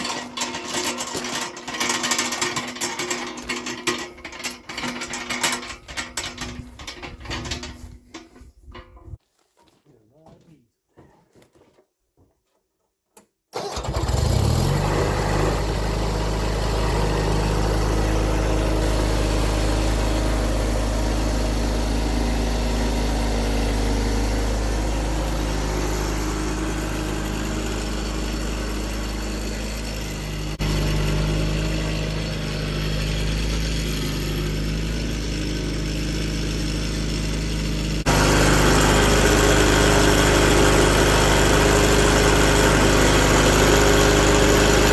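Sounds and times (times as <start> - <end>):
small engine idling: 0.0 - 8.2, 13.6 - 44.9.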